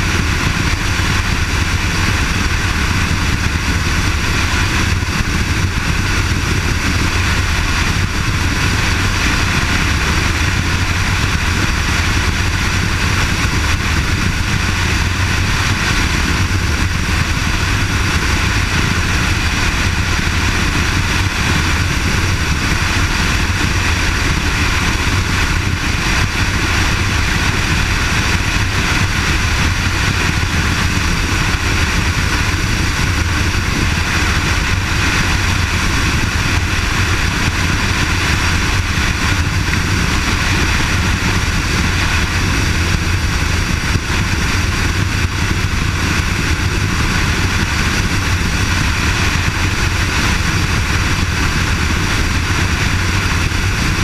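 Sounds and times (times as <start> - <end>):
wind rush: 0.0 - 54.0.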